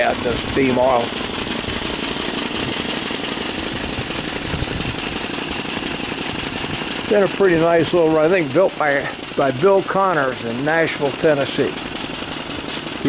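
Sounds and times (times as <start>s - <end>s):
steam engine clatter: 0.0s - 13.0s.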